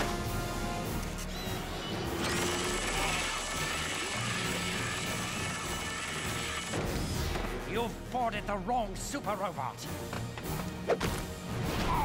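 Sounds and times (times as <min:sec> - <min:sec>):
action background music: 0:00.0 - 0:12.0.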